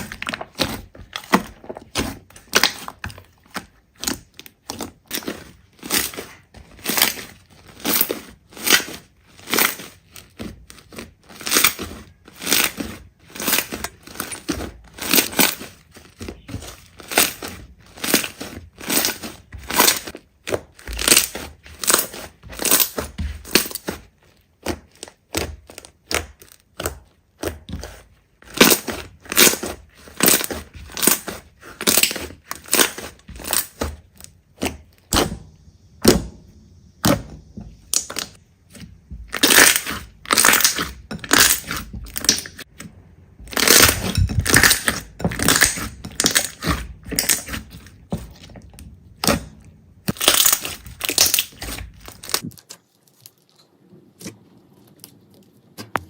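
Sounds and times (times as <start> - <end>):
slime squishing: 0.0 - 56.0.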